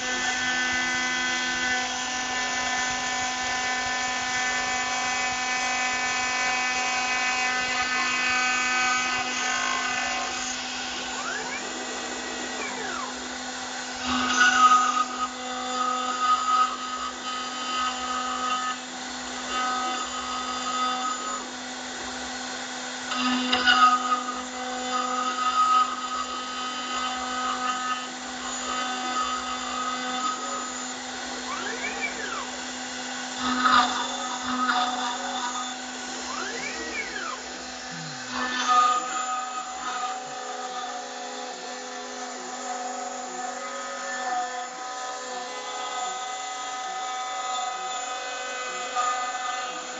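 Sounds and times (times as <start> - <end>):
axis motor whine: 0.0 - 49.9
bit cutting metal: 0.0 - 49.9
engraving machine spindle whining: 0.0 - 49.9.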